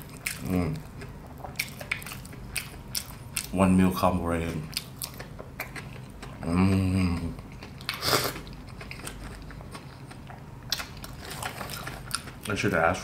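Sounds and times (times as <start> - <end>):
person chewing crispy food: 0.0 - 12.8.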